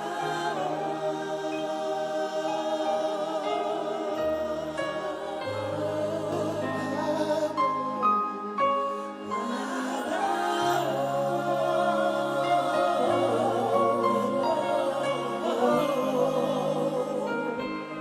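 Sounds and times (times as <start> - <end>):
choir singing gospel music: 0.0 - 18.0.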